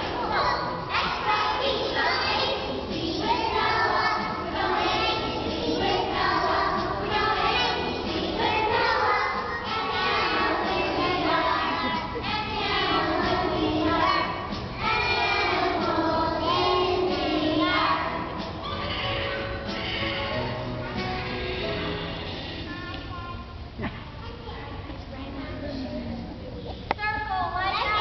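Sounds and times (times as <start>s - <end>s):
toddlers singing together: 0.0s - 22.7s
music playing: 0.0s - 22.9s.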